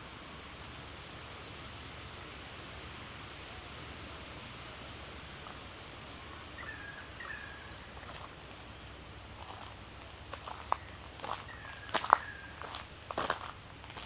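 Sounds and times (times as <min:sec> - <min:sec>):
rushing outdoor hiss: 0:00.0 - 0:14.0.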